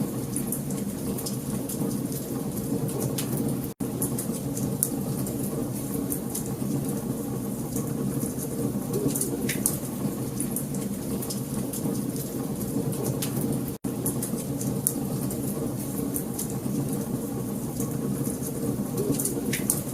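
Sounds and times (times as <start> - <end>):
fireplace fire crackling: 0.0 - 19.9.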